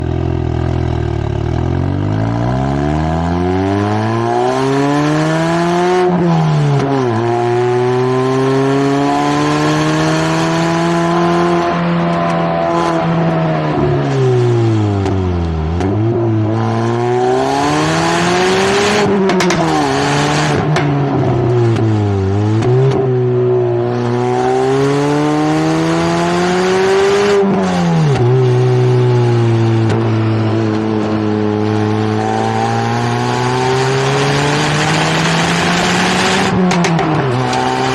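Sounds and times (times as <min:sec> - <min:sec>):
car engine and exhaust revving: 0:00.0 - 0:37.9.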